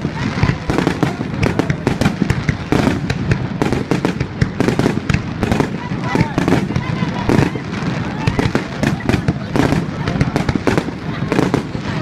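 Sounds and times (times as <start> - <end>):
fireworks cracking: 0.0 - 12.0.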